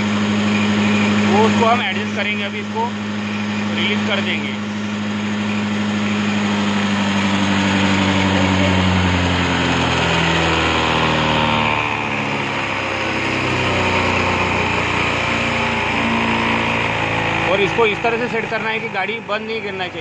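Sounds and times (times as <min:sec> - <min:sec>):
scooter engine idling: 0:00.0 - 0:20.0.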